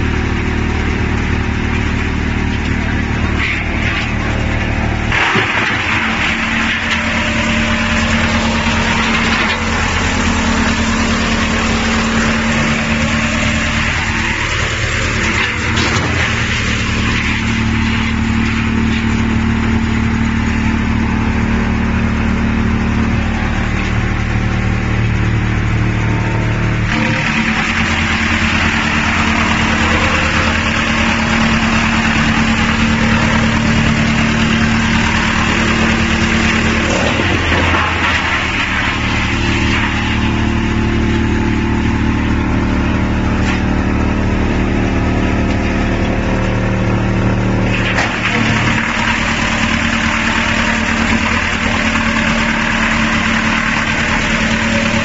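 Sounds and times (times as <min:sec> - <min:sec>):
wood chipper running: 0:00.0 - 0:55.0.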